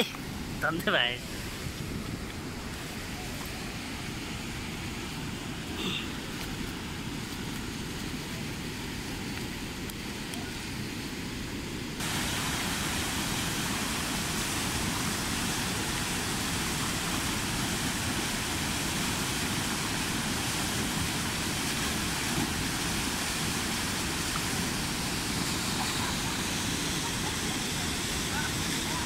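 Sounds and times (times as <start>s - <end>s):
waterfall rushing water: 0.0s - 29.0s.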